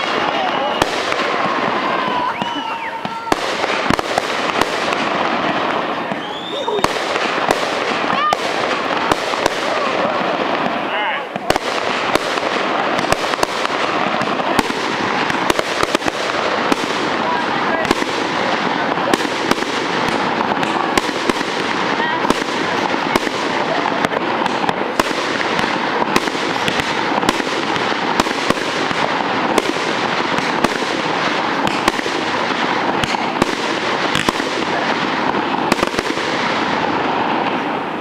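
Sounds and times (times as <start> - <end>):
fireworks crackling and popping: 0.0 - 38.0.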